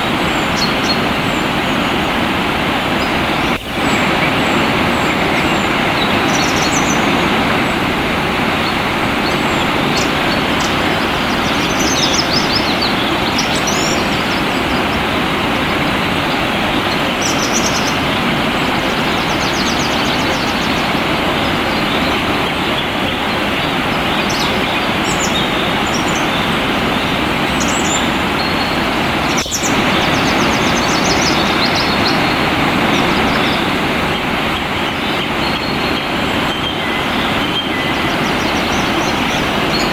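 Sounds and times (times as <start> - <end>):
flowing water rushing: 0.0 - 39.9
small birds chirping: 0.0 - 39.9.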